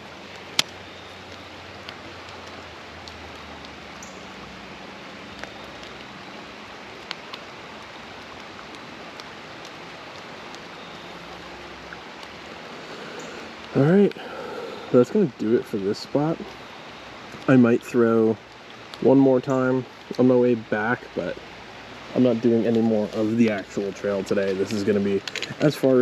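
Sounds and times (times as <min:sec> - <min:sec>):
creek water running: 0:00.0 - 0:26.0.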